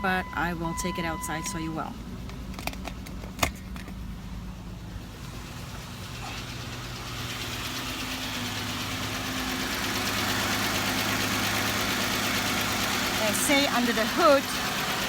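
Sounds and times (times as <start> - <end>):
car engine idling: 0.0 - 15.0
engine clicking noise: 1.4 - 15.0.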